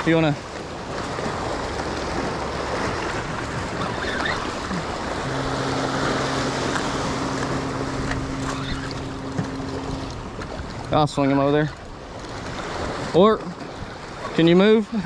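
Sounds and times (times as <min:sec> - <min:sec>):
steady low drone: 0:00.0 - 0:15.0
waves breaking over rocks: 0:00.0 - 0:15.0.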